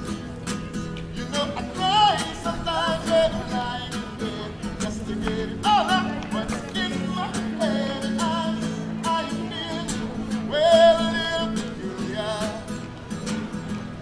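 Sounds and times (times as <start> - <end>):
strummed acoustic guitar: 0.0 - 14.0
man singing: 1.0 - 13.1.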